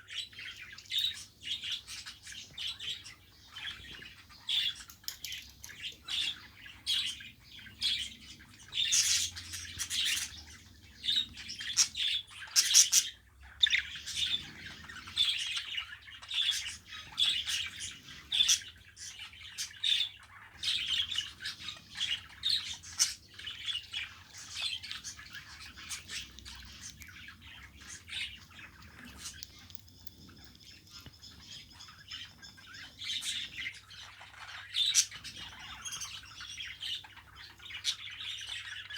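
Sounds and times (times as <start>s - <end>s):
budgerigars chirping: 0.1s - 5.1s, 5.7s - 38.9s.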